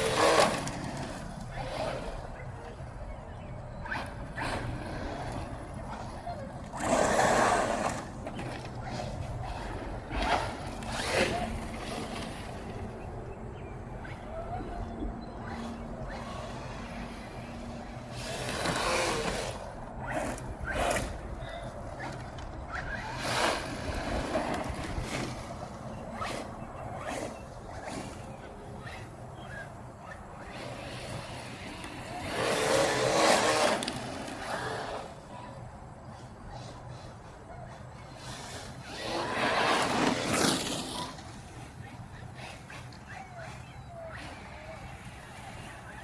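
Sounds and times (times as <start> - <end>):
radio-controlled truck driving: 0.0 - 46.0.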